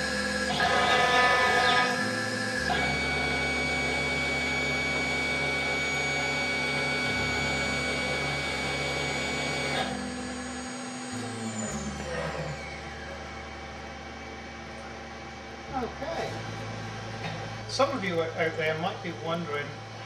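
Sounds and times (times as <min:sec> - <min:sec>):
cnc router motors whining: 0:00.0 - 0:20.0.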